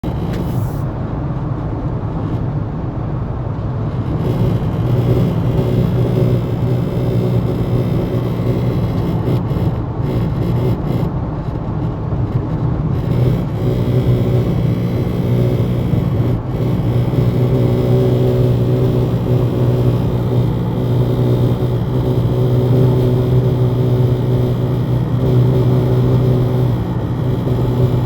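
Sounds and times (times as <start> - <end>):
low buzz inside car cabin: 0.0 - 28.0.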